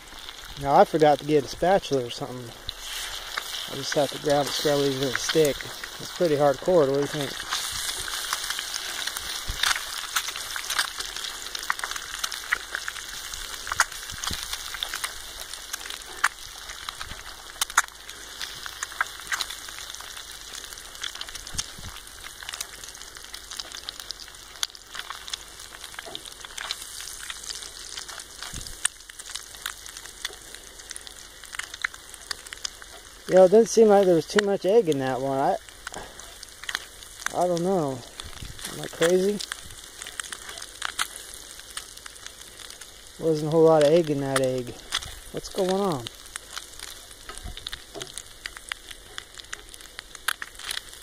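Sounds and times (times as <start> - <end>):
eggs sizzling in a pan: 0.0 - 51.0.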